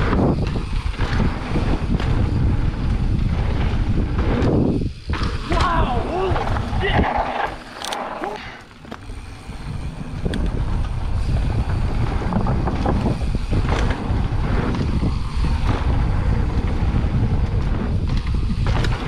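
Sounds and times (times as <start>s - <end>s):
bike rattles: 0.0s - 19.0s
bike tyre and drivetrain noise: 0.0s - 19.0s
wind rushing over microphone: 0.0s - 19.0s.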